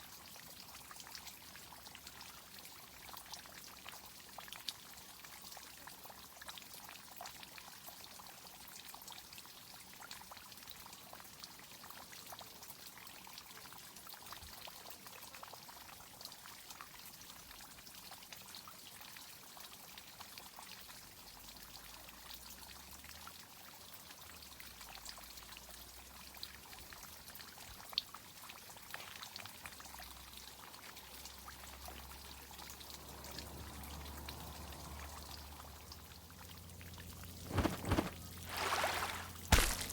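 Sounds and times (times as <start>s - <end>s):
water drips and patters: 0.0s - 39.9s
water pouring and trickling: 0.0s - 39.9s.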